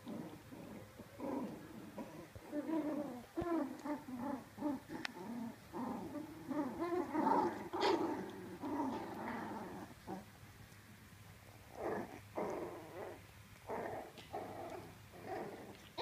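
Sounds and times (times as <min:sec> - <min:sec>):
puppies play-growling: 0:00.0 - 0:16.0.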